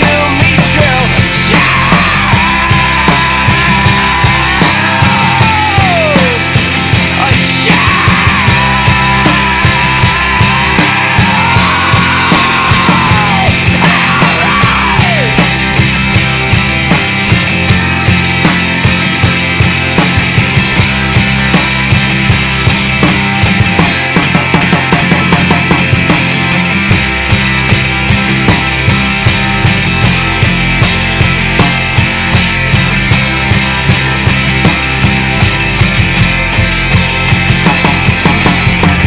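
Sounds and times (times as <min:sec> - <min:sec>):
bending lead guitar line: 0:00.0 - 0:39.0
rock band playing loudly: 0:00.0 - 0:39.0.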